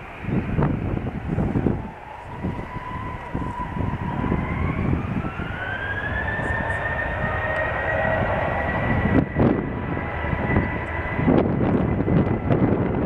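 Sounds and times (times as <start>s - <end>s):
jet engines spooling up: 0.0s - 13.0s
wind buffeting microphone: 0.0s - 13.0s.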